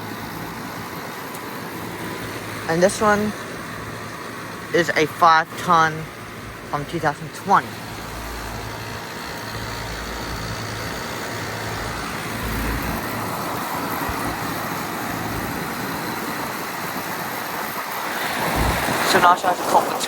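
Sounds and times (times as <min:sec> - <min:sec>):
compressor low hum: 0:00.0 - 0:20.0
condenser fan whoosh: 0:00.0 - 0:20.0.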